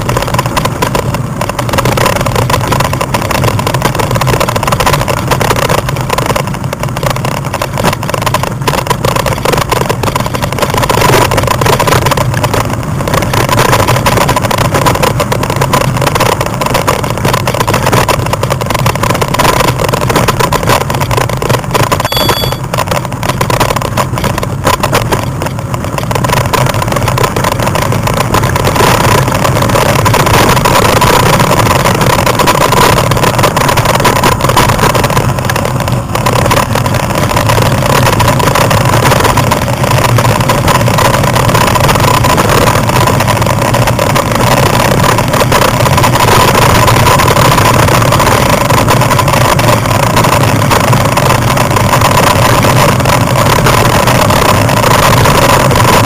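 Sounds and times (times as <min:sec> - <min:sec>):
bike rolling over gravel: 0:00.0 - 0:56.0.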